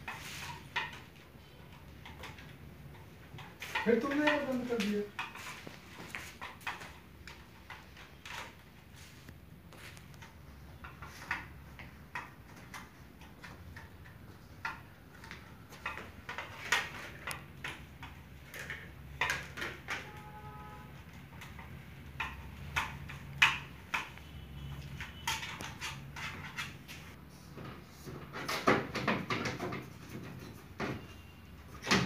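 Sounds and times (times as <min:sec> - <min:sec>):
light clicks and knocks of parts: 0:00.0 - 0:20.3, 0:21.0 - 0:32.0.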